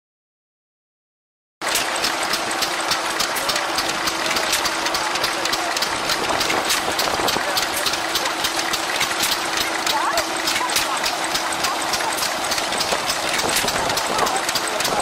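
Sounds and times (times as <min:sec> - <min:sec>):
stationary engine knocking: 0:01.6 - 0:15.0.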